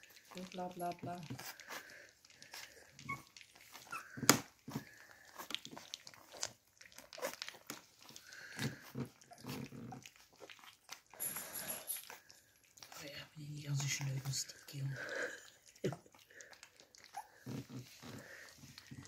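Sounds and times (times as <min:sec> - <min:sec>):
puppies lapping wet food: 0:00.0 - 0:19.0.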